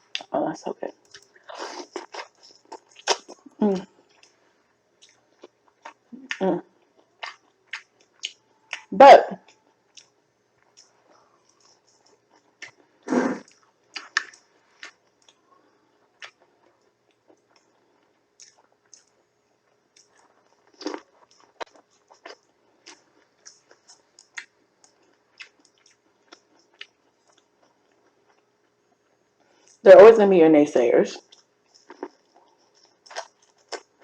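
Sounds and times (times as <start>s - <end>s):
person chewing food: 1.0s - 4.4s, 5.0s - 29.8s, 31.2s - 34.0s.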